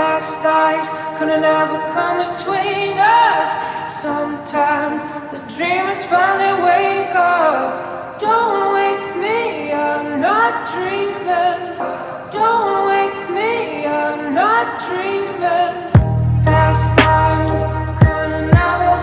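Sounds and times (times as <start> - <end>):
soft backing music: 0.0 - 19.0
woman singing: 0.0 - 19.0.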